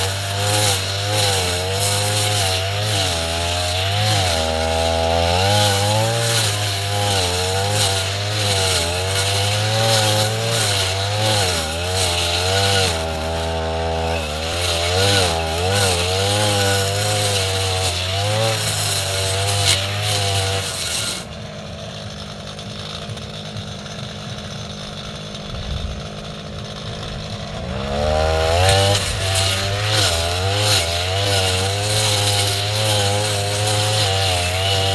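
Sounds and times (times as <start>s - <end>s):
brush cutter engine revving: 0.0s - 34.9s.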